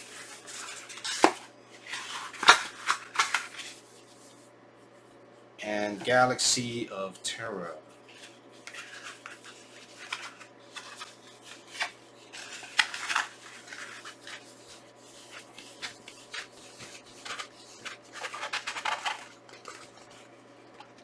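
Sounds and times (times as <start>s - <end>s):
paper rustling and crackling: 0.0s - 4.4s, 8.0s - 21.0s.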